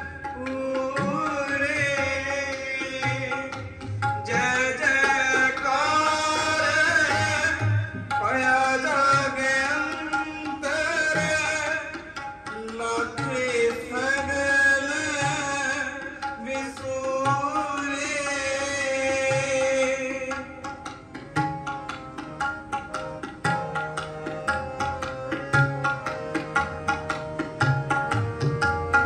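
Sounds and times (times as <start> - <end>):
tabla strokes: 0.0 - 29.0.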